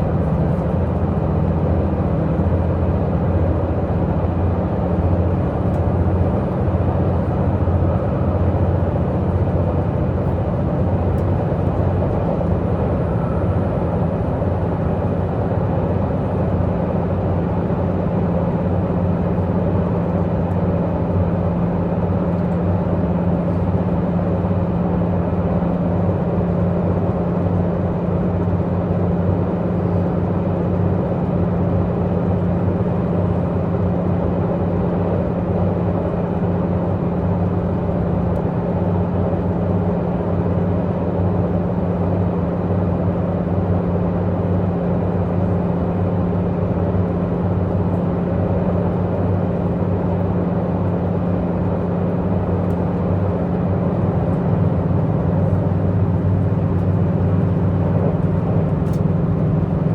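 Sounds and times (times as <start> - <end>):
train diesel engine droning: 0.0 - 59.9
train running noise: 0.0 - 59.9.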